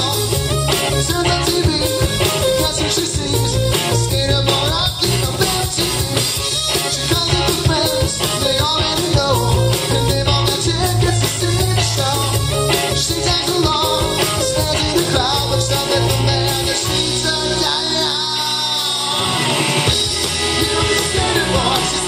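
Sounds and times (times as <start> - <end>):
steady drumbeat: 0.0 - 17.6, 19.2 - 22.0
live rock band playing: 0.0 - 22.0.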